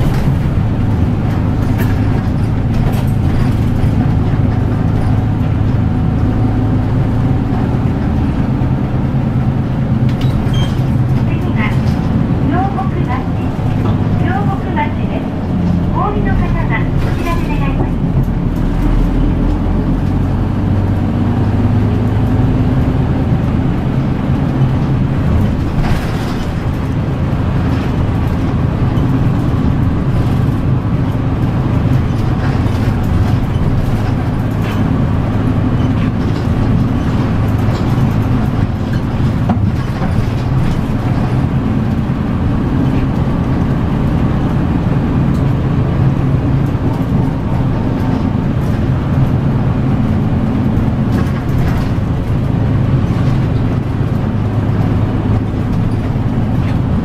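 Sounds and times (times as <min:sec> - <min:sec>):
bus diesel engine running: 0:00.0 - 0:57.0
road and tyre noise: 0:00.0 - 0:57.0.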